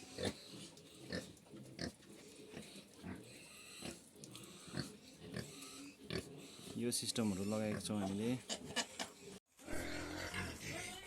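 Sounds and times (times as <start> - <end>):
pigs grunting: 0.0 - 10.9.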